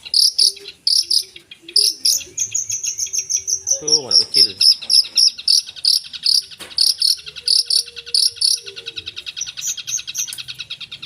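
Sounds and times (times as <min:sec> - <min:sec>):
bird singing buzzy trill: 0:00.0 - 0:11.0.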